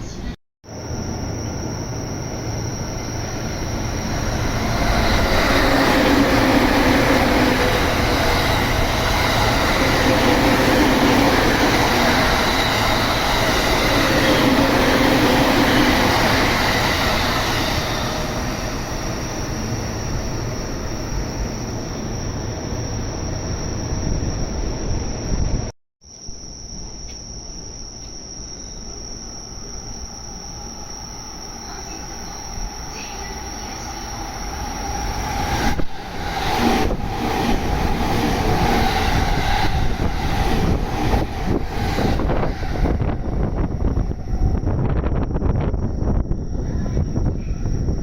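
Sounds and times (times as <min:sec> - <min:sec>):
electric train passing: 0:00.0 - 0:25.7, 0:28.8 - 0:48.0.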